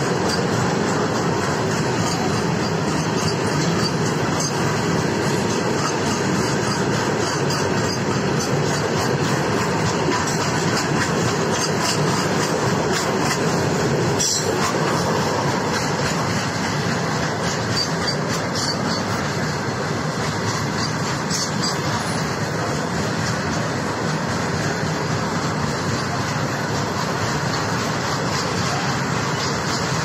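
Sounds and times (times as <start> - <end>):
freight train rolling past: 0.0 - 30.0
sharp wheel clacks: 0.0 - 30.0.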